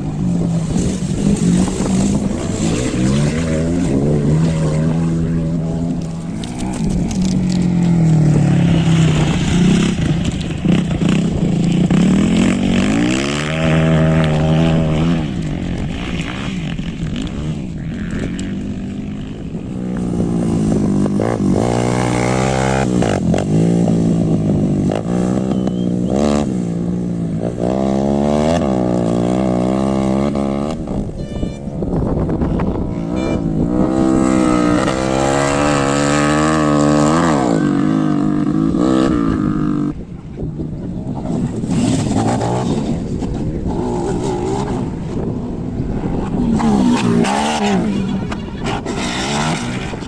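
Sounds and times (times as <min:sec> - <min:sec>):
vehicle engine revving: 0:00.0 - 0:50.0.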